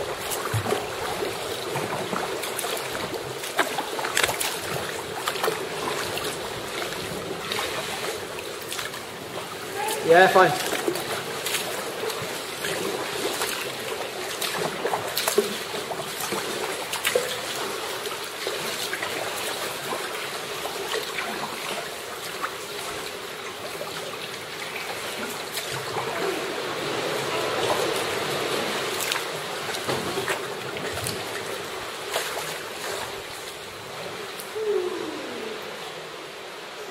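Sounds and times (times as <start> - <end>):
water sloshing against rock: 0.0 - 35.4
paddle splashes: 0.0 - 36.9.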